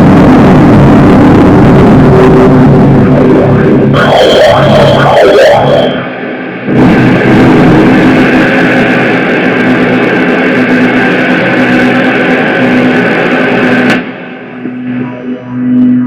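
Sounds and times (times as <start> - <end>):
distorted noise music: 0.0 - 16.0
droning tone: 0.0 - 16.0.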